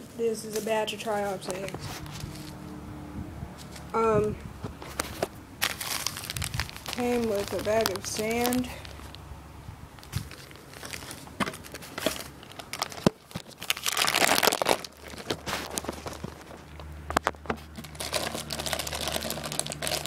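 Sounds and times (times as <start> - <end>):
plastic wrap crinkling: 0.5 - 2.6, 4.8 - 9.2, 10.0 - 20.0.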